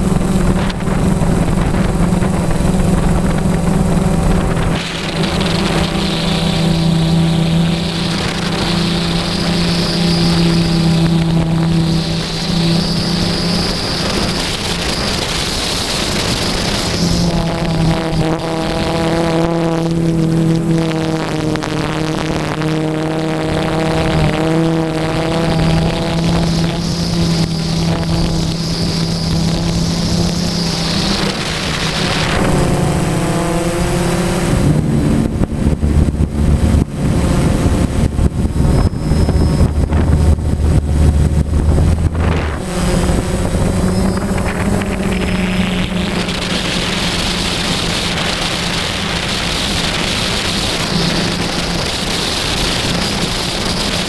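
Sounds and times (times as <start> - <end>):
drone propellers humming: 0.0 - 54.0
wind buffeting microphone: 0.0 - 54.0.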